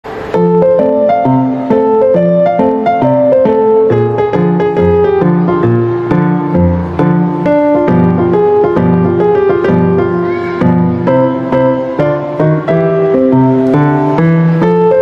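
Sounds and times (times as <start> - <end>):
solo piano melody: 0.0 - 15.0.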